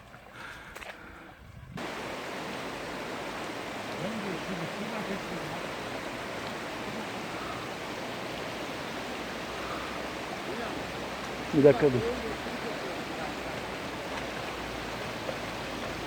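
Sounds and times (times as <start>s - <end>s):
stream water rushing: 1.8s - 16.0s.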